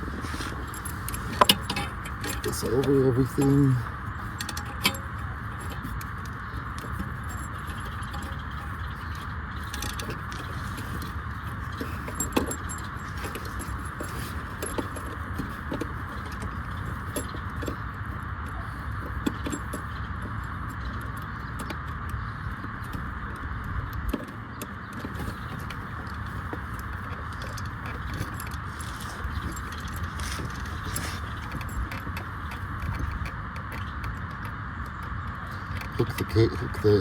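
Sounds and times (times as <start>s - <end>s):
cables and parts rattling: 0.0s - 37.0s.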